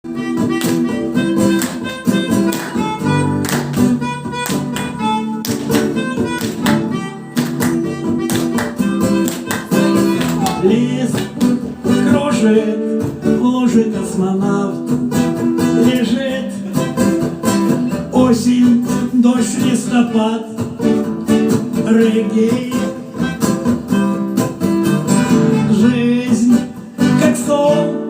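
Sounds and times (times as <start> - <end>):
guitar: 0.0 - 28.0
live reggae band playing: 0.0 - 28.0.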